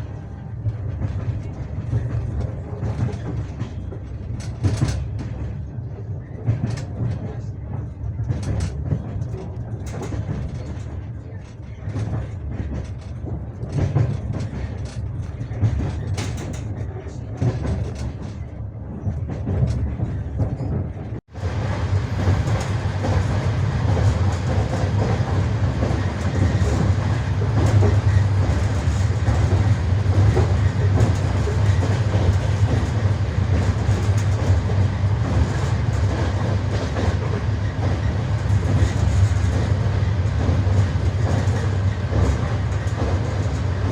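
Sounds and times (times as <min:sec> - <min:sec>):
low rumble of moving carriage: 0:00.0 - 0:43.9
train wheels clattering over rail joints: 0:00.0 - 0:43.9.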